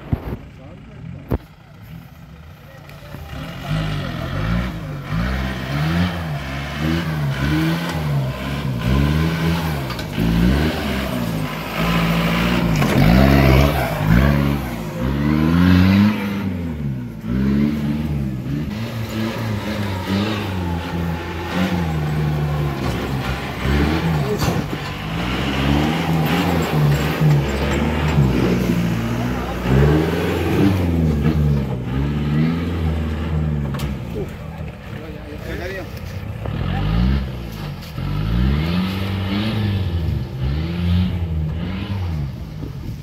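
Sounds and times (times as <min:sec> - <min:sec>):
off-road vehicle engine revving: 0:00.0 - 0:43.0.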